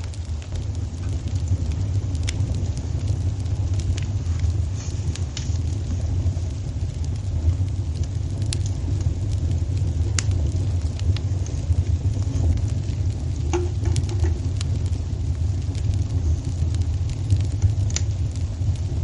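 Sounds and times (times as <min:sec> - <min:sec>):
fire pops and crackles: 0:00.0 - 0:19.0
loud fire snaps: 0:00.0 - 0:19.0
low rumble of flames: 0:00.0 - 0:19.0.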